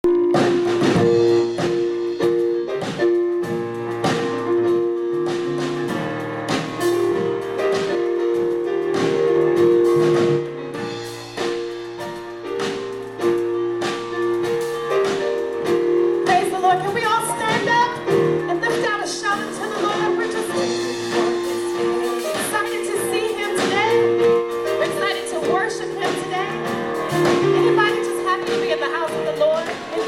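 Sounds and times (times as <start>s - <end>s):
held keyboard chords: 0.0s - 30.0s
steady drum beat: 0.0s - 30.0s.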